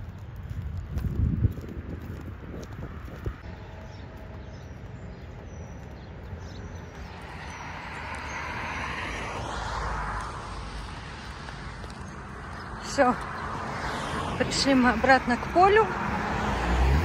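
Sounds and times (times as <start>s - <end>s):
wind rumble on microphone: 0.0s - 17.0s
vehicle passing: 2.9s - 17.0s.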